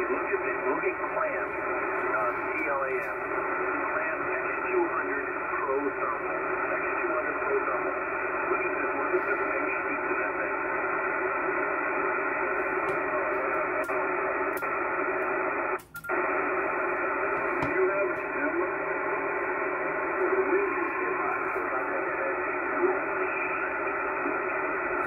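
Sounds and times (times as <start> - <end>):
faint steady tones: 0.0 - 25.0
radio static hiss: 0.0 - 25.0.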